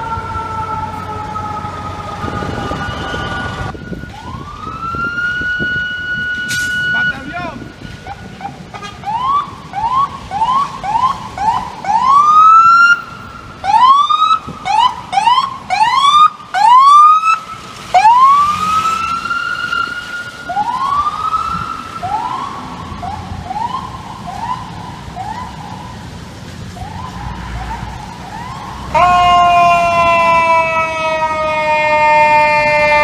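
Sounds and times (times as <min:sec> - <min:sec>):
electronic emergency siren whooping: 0:00.0 - 0:07.3, 0:09.0 - 0:17.4, 0:18.0 - 0:25.8, 0:26.8 - 0:33.0.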